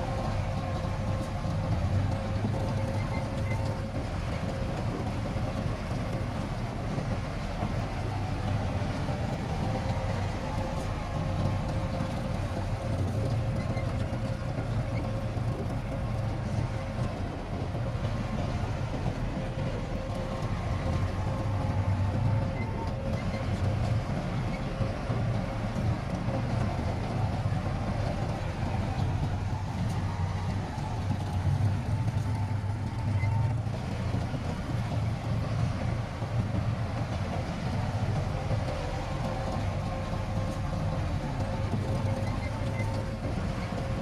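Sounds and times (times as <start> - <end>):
diesel machinery engine rumble: 0.0 - 44.0.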